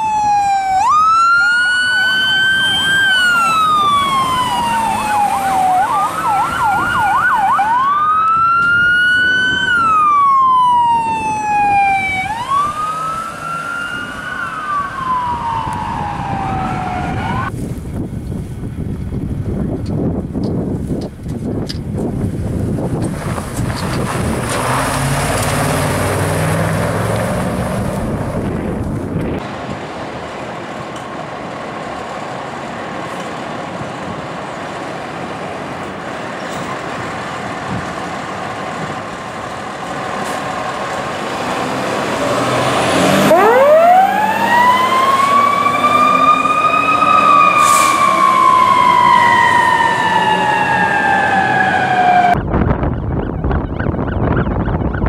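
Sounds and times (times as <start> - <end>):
fire engine diesel running: 0.2 - 52.9.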